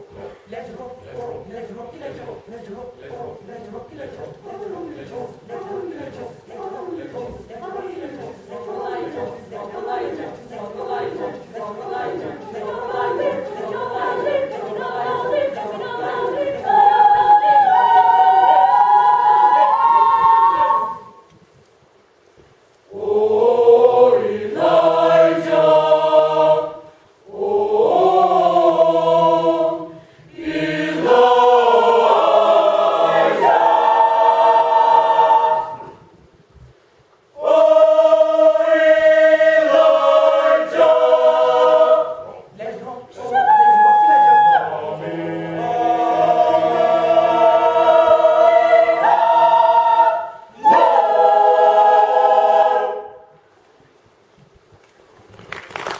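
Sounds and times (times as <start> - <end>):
mixed choir singing unaccompanied: 0.0 - 21.3, 22.9 - 36.1, 37.4 - 53.4.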